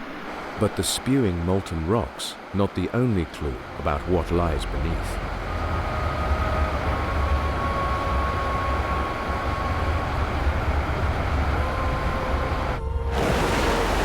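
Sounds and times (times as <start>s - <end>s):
deep steady rumble: 2.8s - 14.0s.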